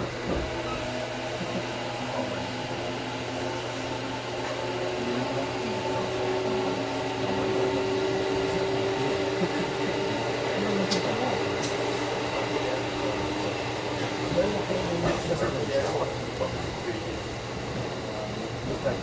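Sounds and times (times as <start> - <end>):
train carriage hum: 0.0 - 19.0.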